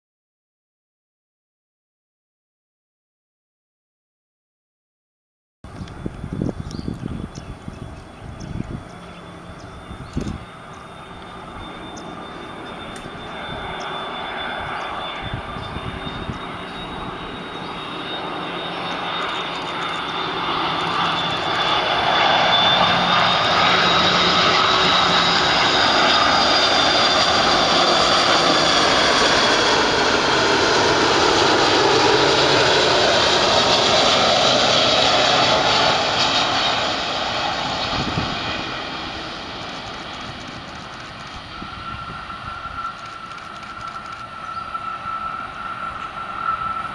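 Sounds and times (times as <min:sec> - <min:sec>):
jet engines on approach: 0:05.7 - 0:46.9.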